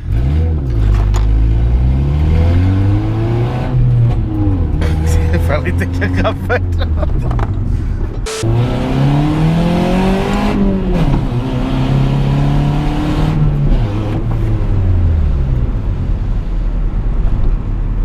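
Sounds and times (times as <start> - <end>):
car engine accelerating: 0.0 - 17.7.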